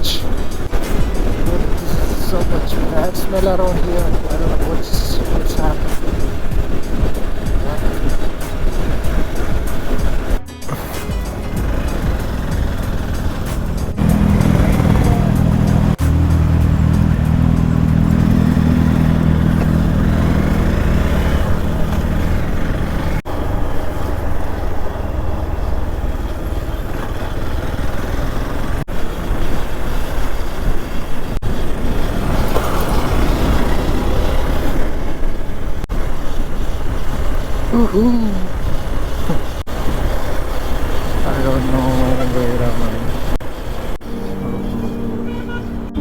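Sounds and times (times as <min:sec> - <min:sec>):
motorcycle engine running: 0:00.0 - 0:46.0
wind and road rush: 0:00.0 - 0:46.0.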